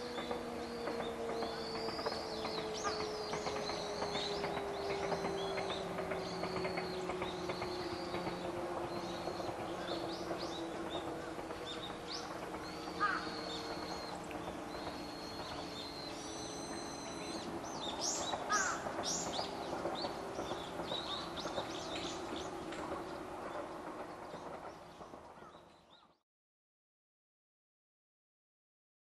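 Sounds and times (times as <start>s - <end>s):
small birds chirping: 0.2s - 26.1s.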